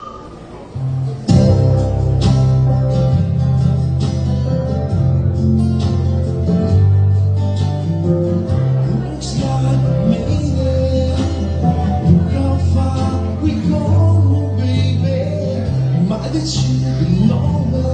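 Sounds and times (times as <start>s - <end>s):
band music led by guitar: 0.7s - 17.9s
deep bass line: 0.8s - 17.9s.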